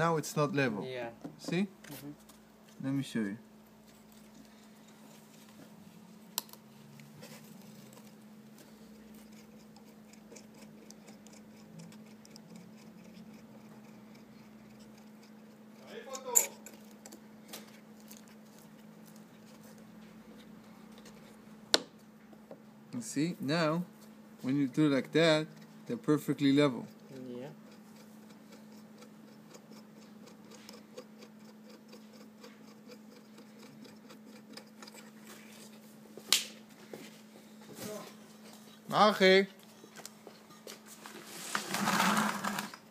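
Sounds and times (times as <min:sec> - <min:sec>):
steady low hum: 0:00.0 - 0:41.8.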